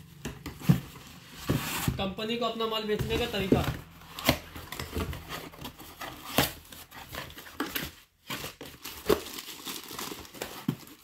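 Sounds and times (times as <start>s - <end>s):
cardboard rustling and scraping: 0.0s - 2.2s, 2.8s - 11.0s.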